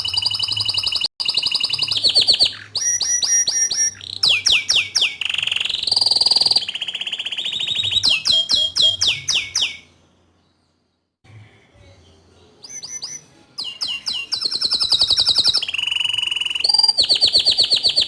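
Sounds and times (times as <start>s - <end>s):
canary singing trills: 0.0s - 18.0s.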